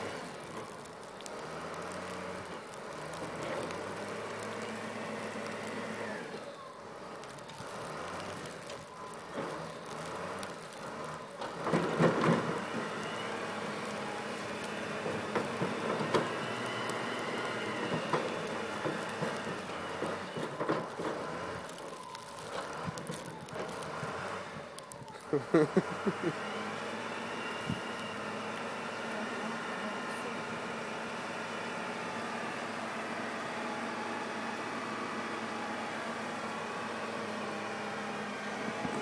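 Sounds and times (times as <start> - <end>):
diesel engine running under load: 0.0 - 39.0.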